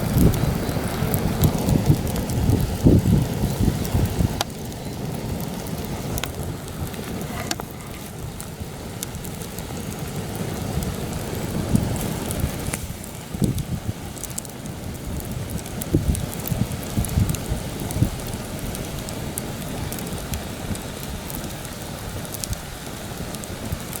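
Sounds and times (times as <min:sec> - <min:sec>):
campfire crackling and popping: 0:00.0 - 0:24.0
gusty wind buffeting microphone: 0:00.0 - 0:24.0.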